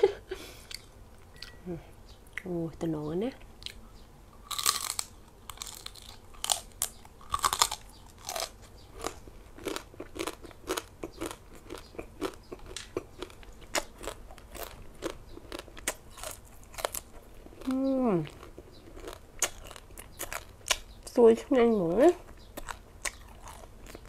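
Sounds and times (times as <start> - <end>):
crunchy chewing: 3.4 - 21.1, 22.1 - 24.0.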